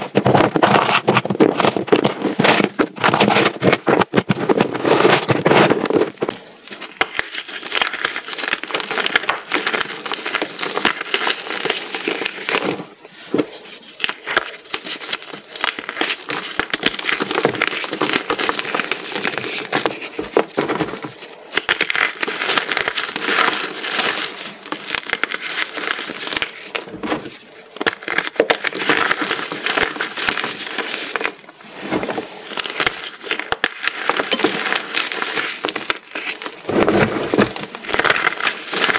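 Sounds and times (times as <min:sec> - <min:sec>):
chalk crunching and snapping: 0:00.0 - 0:38.9.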